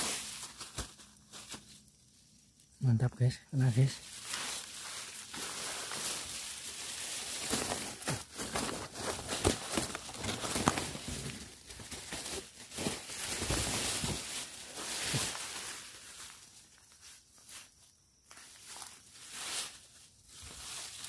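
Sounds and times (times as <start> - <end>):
footsteps in leaf litter: 0.0 - 2.2, 3.6 - 21.0
leaves and twigs rustling: 0.0 - 21.0.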